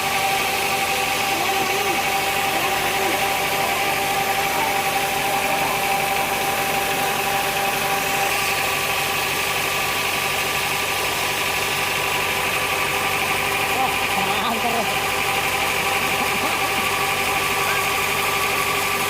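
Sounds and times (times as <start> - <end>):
sawmill machinery humming: 0.0 - 19.0.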